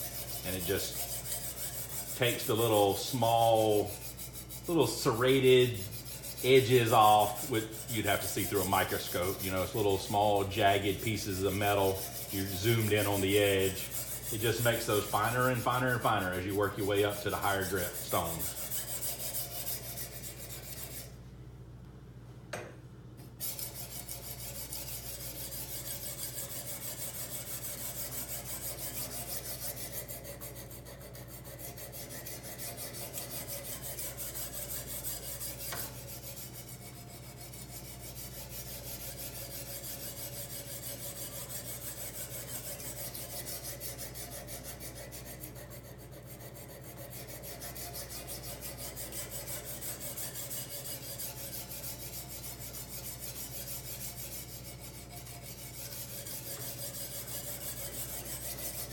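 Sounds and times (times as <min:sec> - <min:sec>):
sharpening stone scraping knife edge: 0:00.0 - 0:15.4, 0:16.3 - 0:21.1, 0:23.4 - 0:58.9.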